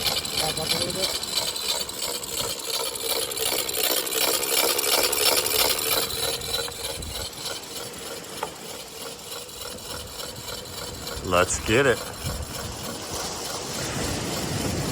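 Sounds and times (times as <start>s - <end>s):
fishing reel drag screaming: 0.0s - 14.9s.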